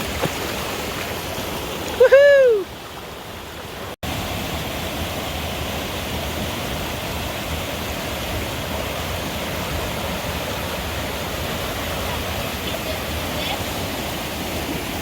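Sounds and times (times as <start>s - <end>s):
fast water rushing: 0.0s - 15.0s.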